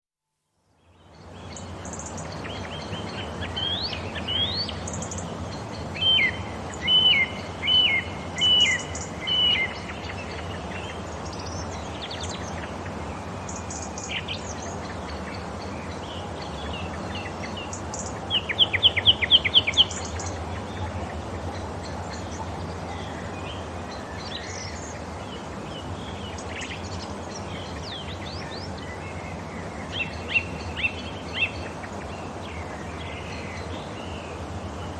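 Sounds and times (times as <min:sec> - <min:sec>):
steady background noise: 0:00.8 - 0:34.9
wild birds chirping and calling: 0:01.2 - 0:34.9.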